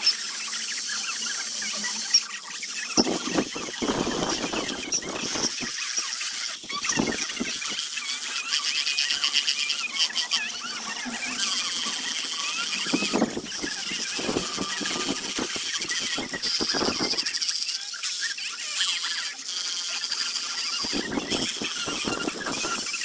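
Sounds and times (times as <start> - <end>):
power tool whining on wood: 0.0 - 23.0.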